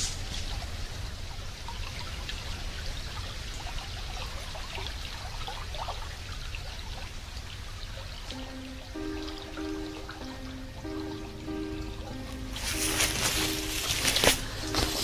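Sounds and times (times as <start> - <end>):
rushing water: 0.0 - 15.0
water drips and trickles: 0.0 - 15.0.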